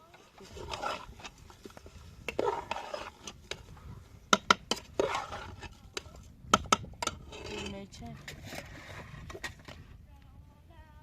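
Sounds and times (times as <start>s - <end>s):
metal spoon scraping in pot: 0.1s - 3.8s, 4.4s - 9.8s.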